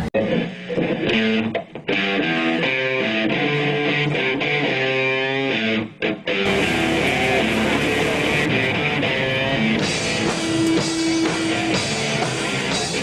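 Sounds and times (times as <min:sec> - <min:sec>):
electric guitar riff: 0:00.0 - 0:13.0.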